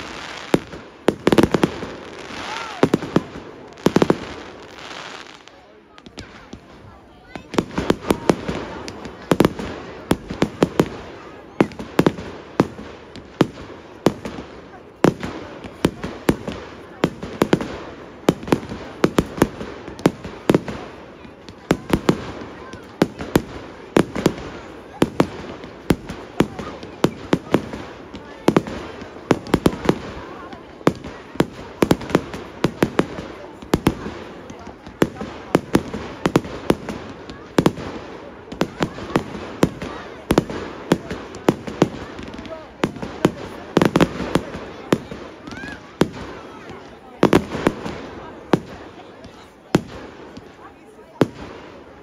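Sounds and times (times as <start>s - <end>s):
fireworks bangs and pops: 0.0s - 52.0s.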